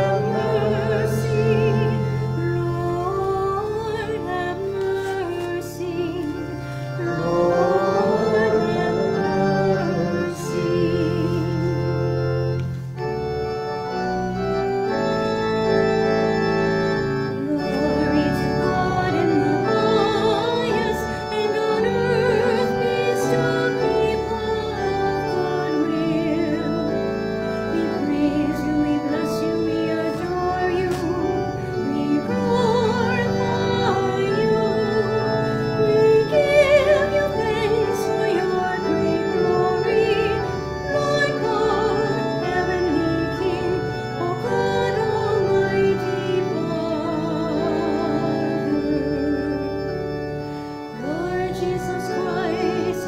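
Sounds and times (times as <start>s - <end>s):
person singing with vibrato: 0.0s - 12.4s, 17.4s - 49.8s, 50.9s - 53.0s
church organ playing chords: 0.0s - 53.0s.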